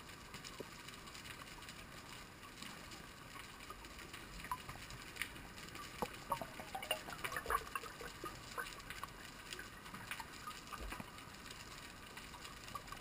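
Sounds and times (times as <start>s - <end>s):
low hiss: 0.0s - 13.0s
underwater bubbles gurgling: 0.0s - 13.0s
faint clicks: 0.3s - 13.0s.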